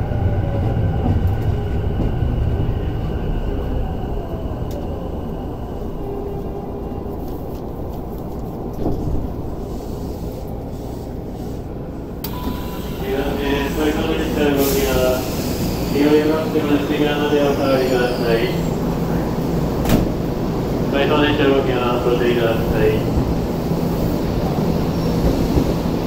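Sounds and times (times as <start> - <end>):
steady train hum: 0.0 - 26.0
train running noise: 0.0 - 26.0.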